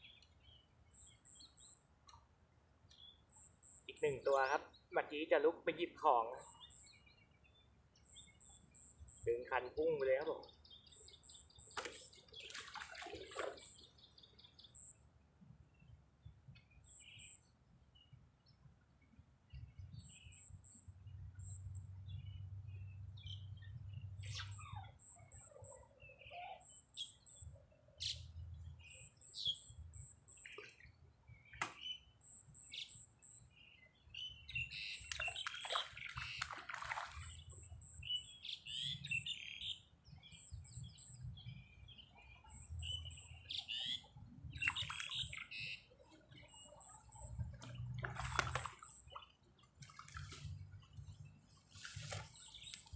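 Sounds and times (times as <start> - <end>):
birds chirping: 2.9 - 15.0, 15.6 - 52.9.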